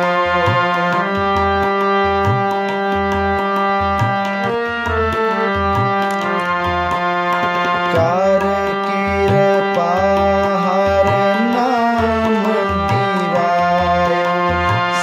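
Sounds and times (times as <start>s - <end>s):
harmonium melody: 0.0s - 15.0s
tabla beat: 0.0s - 15.0s.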